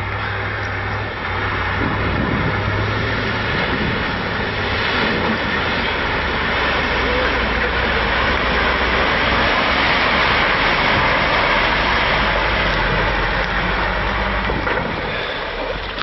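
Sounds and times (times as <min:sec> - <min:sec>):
diesel truck engine under load: 0:00.0 - 0:16.0
water splashing: 0:01.4 - 0:16.0.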